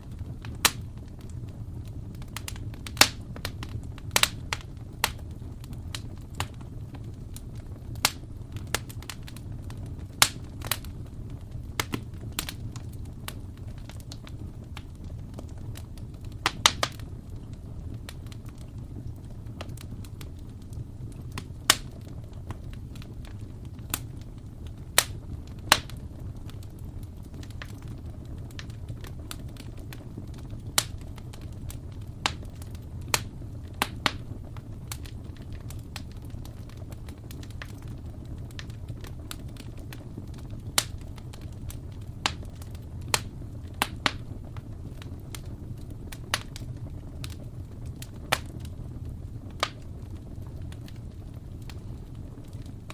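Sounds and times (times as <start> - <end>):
fire pops and snaps: 0.0 - 52.9
low rumble of burning fire: 0.0 - 52.9.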